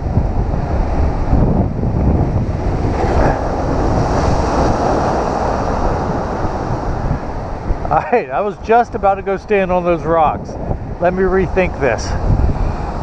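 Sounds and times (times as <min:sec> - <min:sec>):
wind buffeting microphone: 0:00.0 - 0:13.0
surf breaking over rocks: 0:00.4 - 0:12.4.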